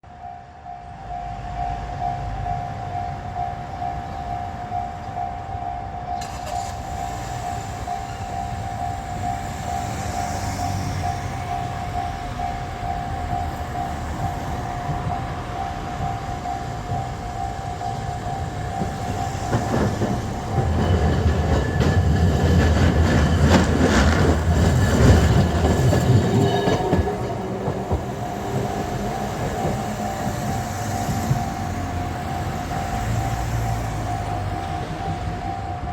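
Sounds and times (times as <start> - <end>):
tram wheels clacking over rails: 6.2 - 35.9.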